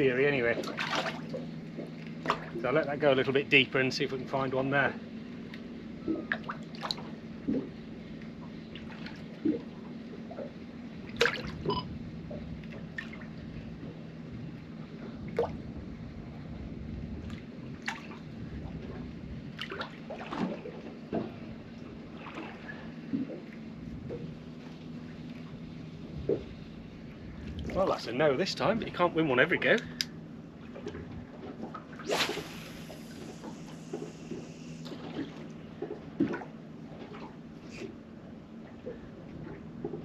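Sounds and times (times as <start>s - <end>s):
steady low hum: 0.0s - 40.0s
water lapping against boat hull: 0.0s - 40.0s.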